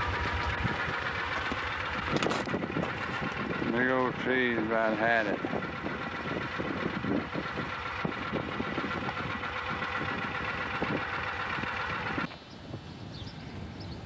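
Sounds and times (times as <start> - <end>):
engine rough low rumble: 0.0 - 14.0.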